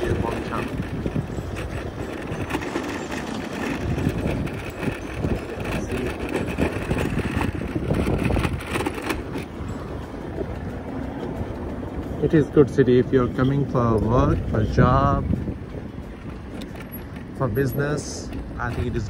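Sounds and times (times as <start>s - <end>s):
road noise: 0.0s - 19.0s
wind rumbling on microphone: 0.0s - 19.0s.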